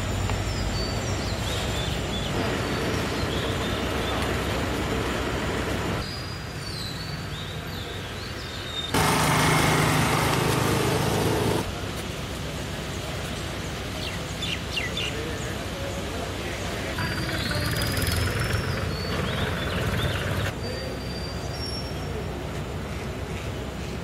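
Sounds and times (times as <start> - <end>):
birds chirping: 0.0 - 11.7, 12.7 - 23.8.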